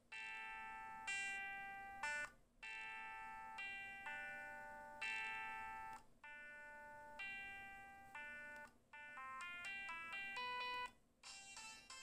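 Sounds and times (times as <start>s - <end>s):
phone ringtone melody: 0.1s - 12.0s.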